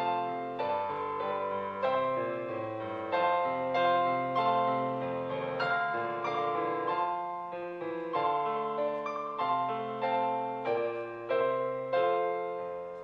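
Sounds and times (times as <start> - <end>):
slow hymn on piano: 0.0 - 13.0.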